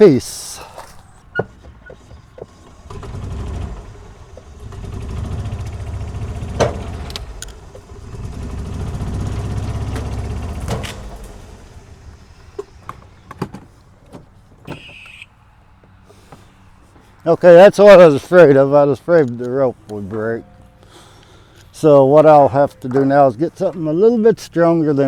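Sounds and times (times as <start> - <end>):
golf cart pulling: 0.0 - 25.0.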